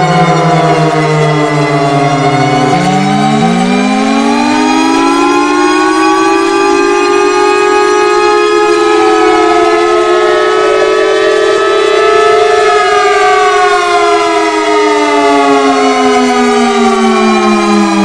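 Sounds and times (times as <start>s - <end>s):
civil defense siren wailing: 0.0s - 18.0s.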